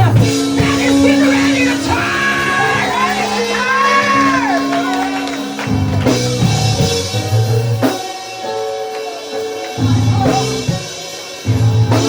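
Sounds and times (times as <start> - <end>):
live church band playing: 0.0 - 12.0.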